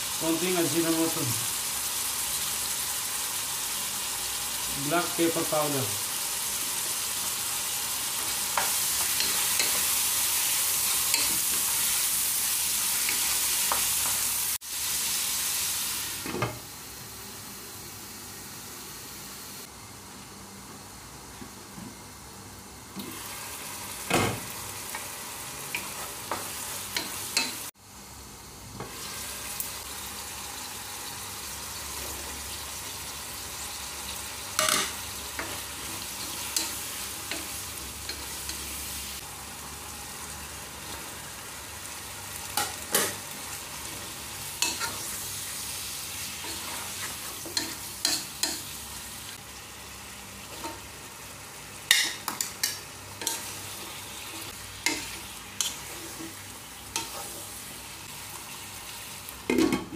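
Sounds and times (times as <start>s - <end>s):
food sizzling in a pot: 0.0s - 59.9s.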